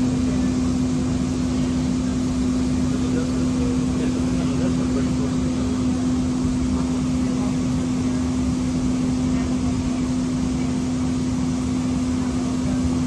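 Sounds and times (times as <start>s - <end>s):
light rail vehicle running hum: 0.0s - 13.0s.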